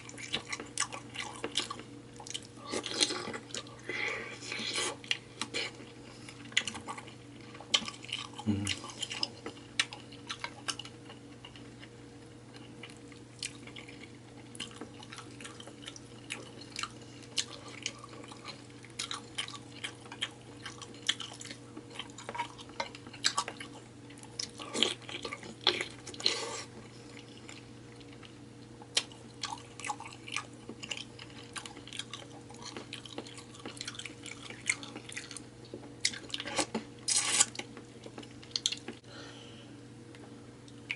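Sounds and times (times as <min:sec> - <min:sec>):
wet chewing and smacking: 0:00.0 - 0:03.8, 0:04.6 - 0:39.0
faint steady hum: 0:00.0 - 0:40.9.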